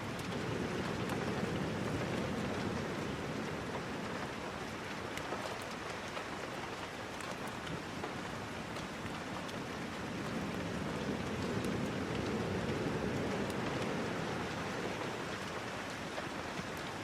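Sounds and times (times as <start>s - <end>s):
sharp ticks of raindrops: 0.0s - 17.0s
steady rain falling: 0.0s - 17.0s.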